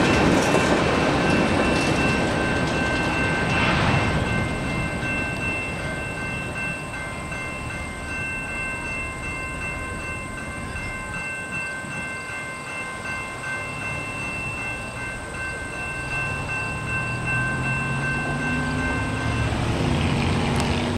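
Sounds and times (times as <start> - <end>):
freight train rumbling: 0.0 - 20.9
high-pitched ringing tones: 1.2 - 20.0.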